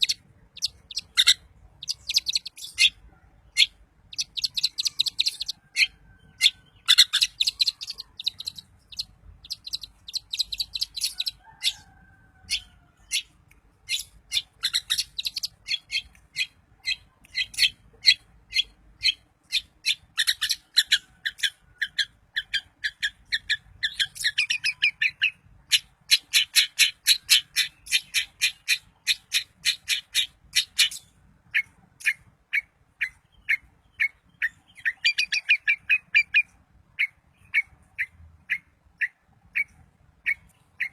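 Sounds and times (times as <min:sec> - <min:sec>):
shrike chattering song: 0:00.0 - 0:40.9.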